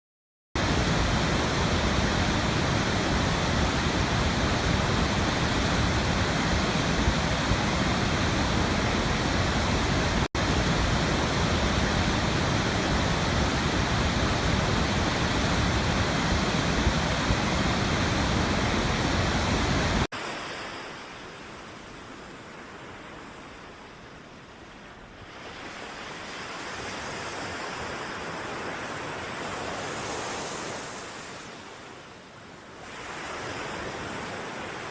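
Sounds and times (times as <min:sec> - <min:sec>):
ocean surf: 0:00.6 - 0:34.9.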